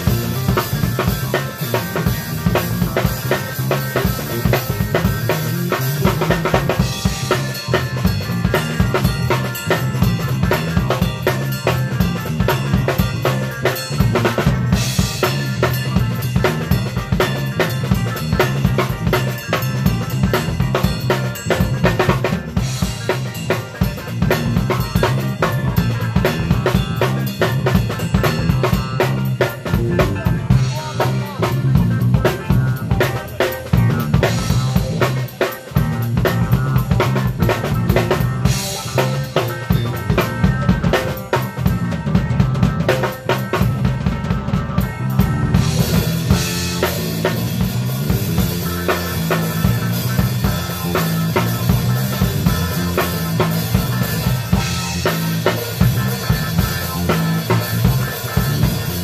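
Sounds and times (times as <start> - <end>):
bass guitar line: 0.0 - 59.0
drum kit: 0.0 - 59.0
live band instrumental groove: 0.0 - 59.0.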